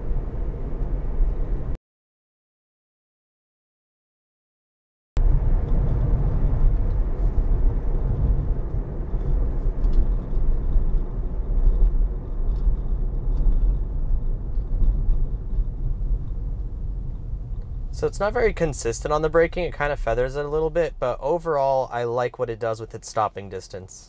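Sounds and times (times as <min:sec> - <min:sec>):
road and tyre rumble in car: 0:00.0 - 0:01.8, 0:05.2 - 0:23.8.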